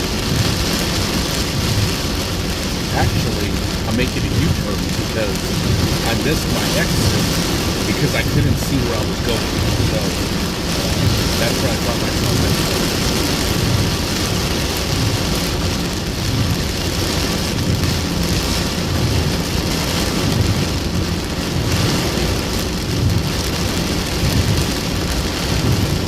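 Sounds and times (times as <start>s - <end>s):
heavy rain on car: 0.0s - 26.0s.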